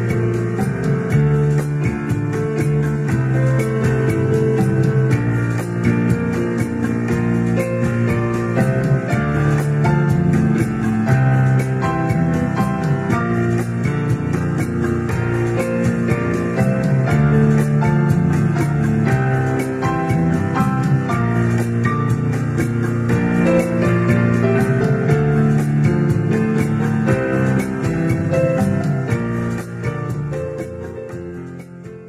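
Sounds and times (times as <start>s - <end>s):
background music with steady beat: 0.0s - 32.0s.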